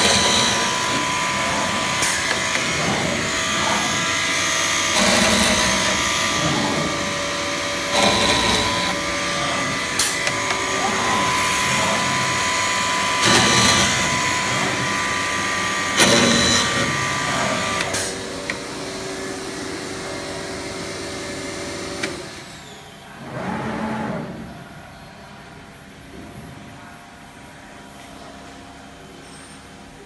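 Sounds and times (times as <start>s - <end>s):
cnc router whine: 0.0s - 26.2s.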